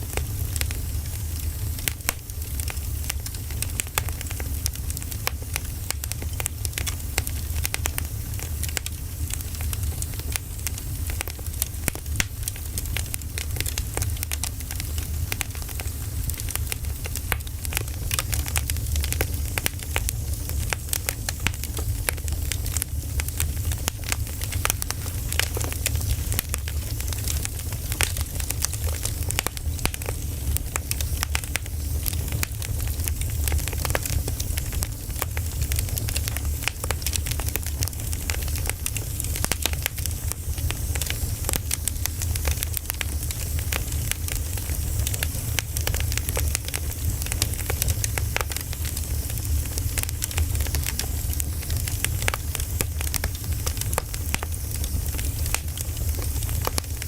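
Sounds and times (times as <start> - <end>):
firewood crackling and popping: 0.0 - 57.0
low rumble of fire: 0.0 - 57.0.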